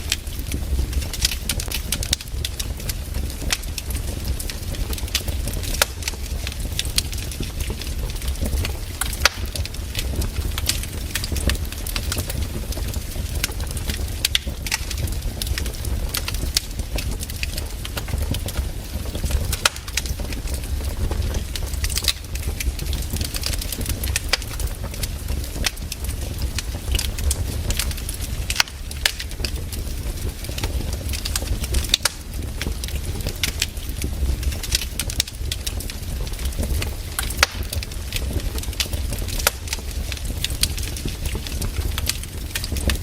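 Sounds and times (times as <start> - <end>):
fire rumbling: 0.0 - 43.0
firewood crackling and popping: 0.0 - 43.0.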